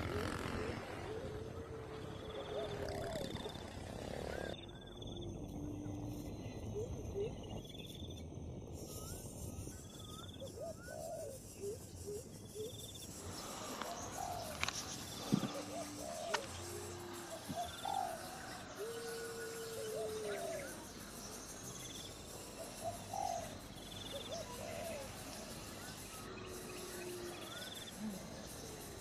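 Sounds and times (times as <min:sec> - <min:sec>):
birds chirping: 0:00.0 - 0:29.0
steady outdoor hiss: 0:00.0 - 0:29.0.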